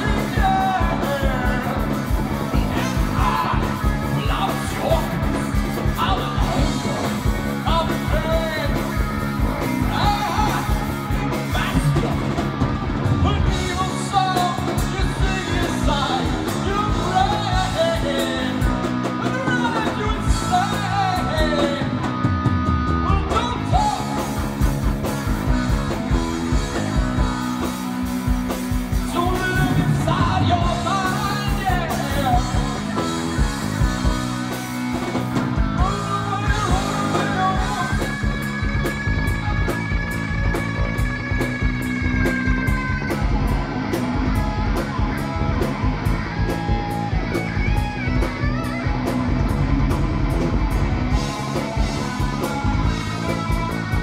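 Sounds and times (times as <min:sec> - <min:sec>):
bass guitar: 0:00.0 - 0:54.0
distorted electric guitar solo: 0:00.0 - 0:54.0
drums: 0:00.0 - 0:54.0.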